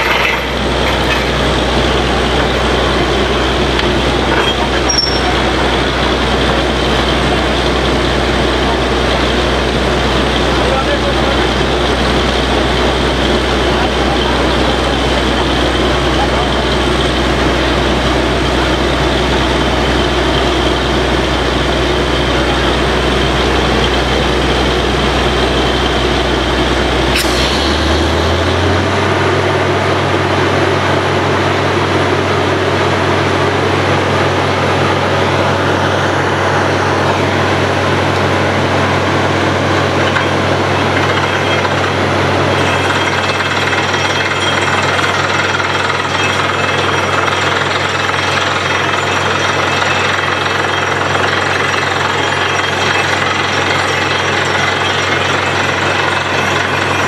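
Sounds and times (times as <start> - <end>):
drilling hammer pounding clatter: 0.0 - 35.5, 37.0 - 57.0
drilling rig engine drone: 0.0 - 57.0.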